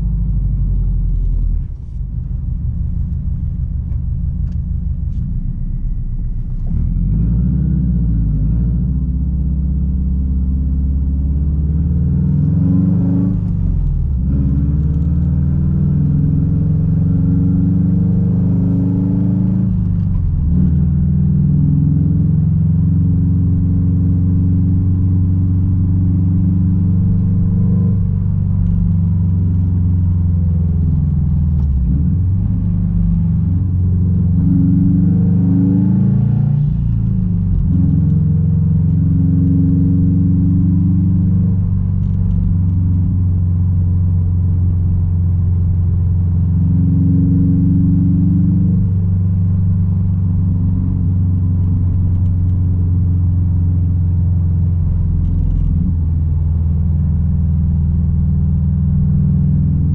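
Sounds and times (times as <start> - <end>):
car engine exhaust drone: 0.0 - 59.9.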